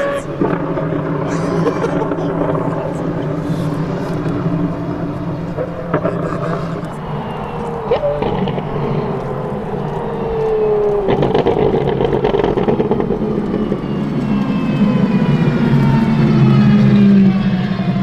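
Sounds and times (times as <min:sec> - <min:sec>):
engine running hard: 0:00.0 - 0:18.0.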